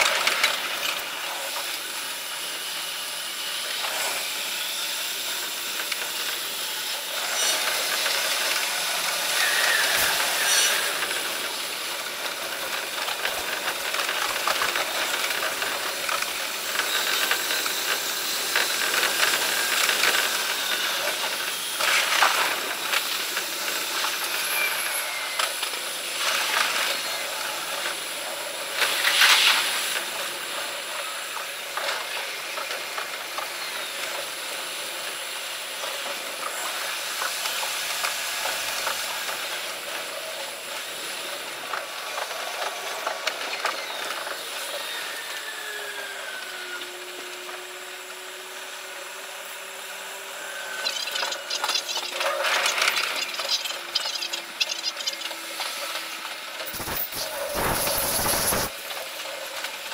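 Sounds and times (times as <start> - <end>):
sped-up train running noise: 0.0 - 59.9.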